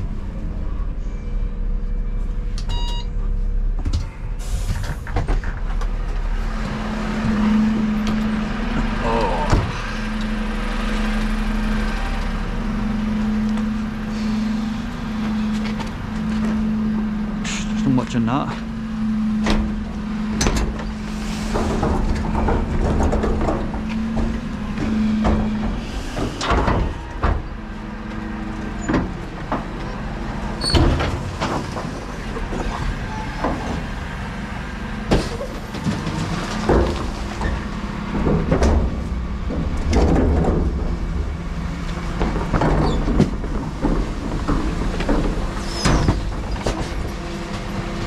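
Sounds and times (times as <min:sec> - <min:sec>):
diesel truck idling: 0:00.0 - 0:48.0
bin wheels clattering: 0:04.5 - 0:48.0.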